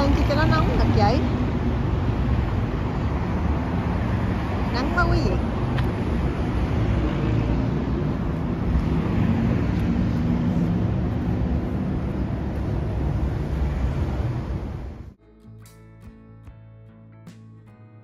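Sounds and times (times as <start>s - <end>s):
vehicle engine and tyres: 0.0s - 15.2s.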